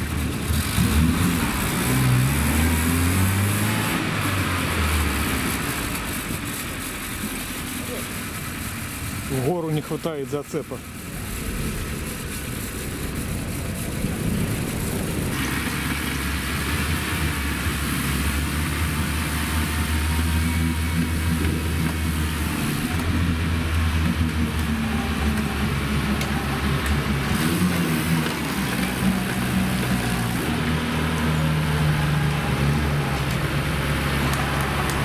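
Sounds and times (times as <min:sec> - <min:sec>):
rushing noise: 0:00.0 - 0:35.0
van engine under load: 0:00.0 - 0:35.0.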